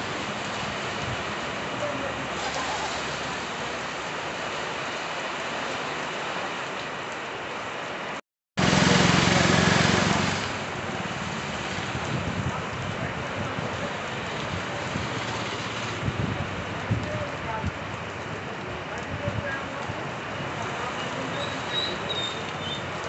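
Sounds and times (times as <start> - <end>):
heavy rain falling: 0.0 - 23.0
wind: 0.0 - 23.0.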